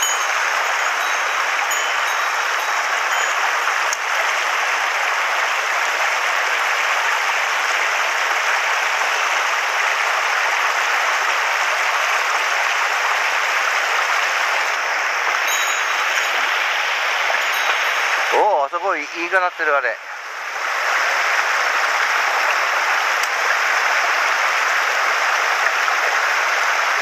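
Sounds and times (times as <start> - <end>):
stream running over stones: 0.0 - 27.0.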